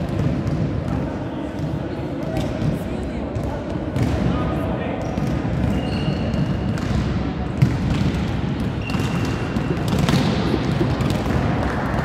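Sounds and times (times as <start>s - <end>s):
sports hall noise: 0.0s - 12.0s
volleyballs thudding: 0.0s - 12.0s.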